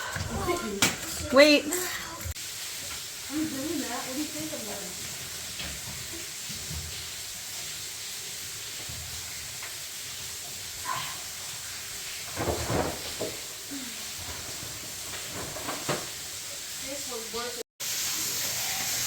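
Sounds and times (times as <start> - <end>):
cave waterfall hissing: 2.1 - 19.0.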